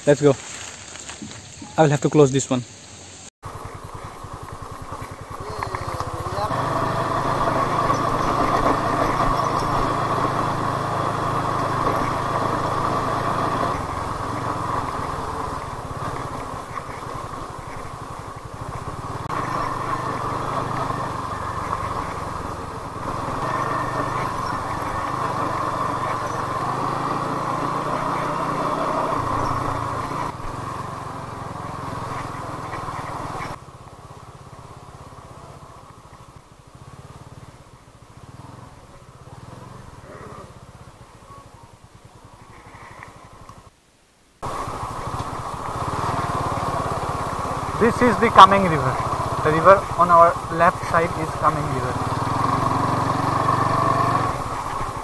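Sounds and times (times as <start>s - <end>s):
motorcycle engine running: 3.4s - 43.8s, 44.4s - 55.0s.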